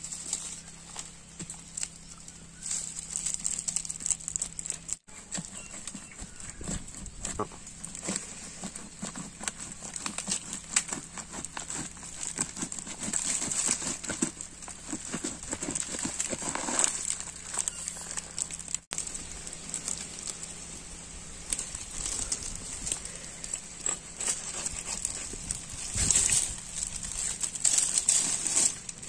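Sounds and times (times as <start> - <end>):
fruit rind cracking and tearing: 0.3 - 29.0.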